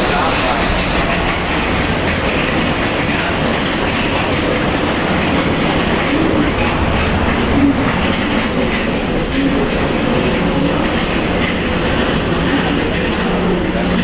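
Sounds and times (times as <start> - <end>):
ride car rumbling on track: 0.0 - 14.0.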